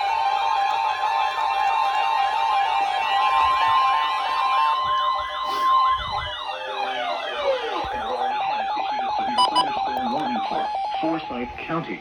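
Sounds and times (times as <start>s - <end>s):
wailing sirens: 0.1s - 11.1s.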